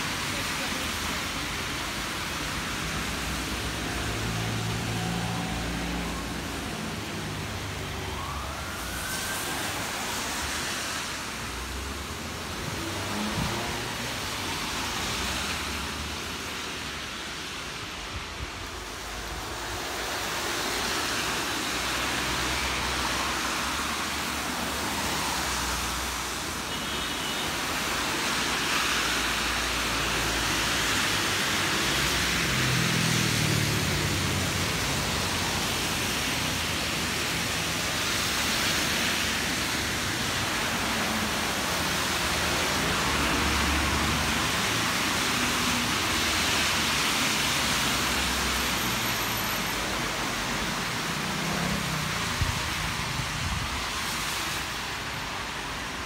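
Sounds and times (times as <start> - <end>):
rain hissing: 0.0 - 56.0
tyres on wet road: 0.0 - 56.0.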